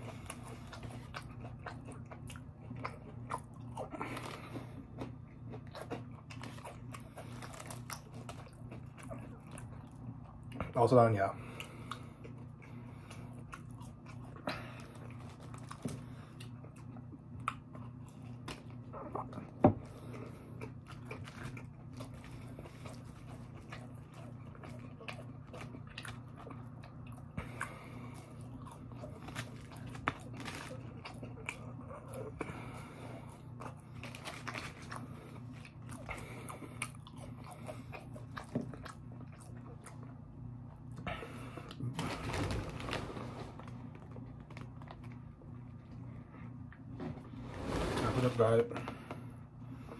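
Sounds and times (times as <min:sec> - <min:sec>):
chewing and crunching fried food: 0:00.0 - 0:47.0
steady low hum: 0:00.0 - 0:49.9.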